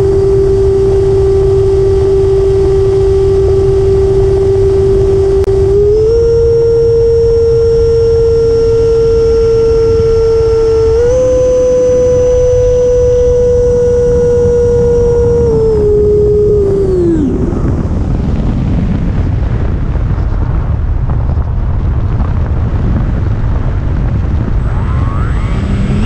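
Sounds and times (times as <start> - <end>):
electric ducted fan whine: 0.0 - 26.0
wind on microphone: 0.0 - 26.0.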